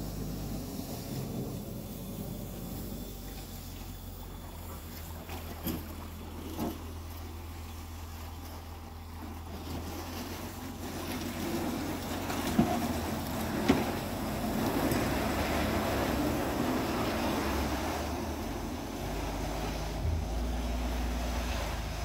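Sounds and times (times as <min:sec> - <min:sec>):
hauling machinery hum: 0:00.0 - 0:22.0.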